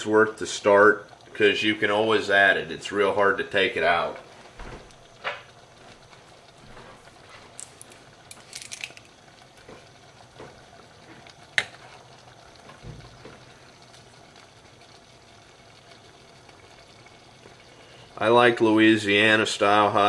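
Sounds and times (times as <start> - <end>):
pot simmering: 0.0 - 20.0.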